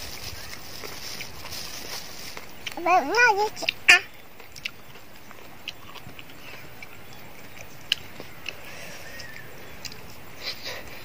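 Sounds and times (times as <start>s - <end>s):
faint outdoor background noise: 0.0s - 11.0s
person chewing crunchy food: 0.0s - 11.0s.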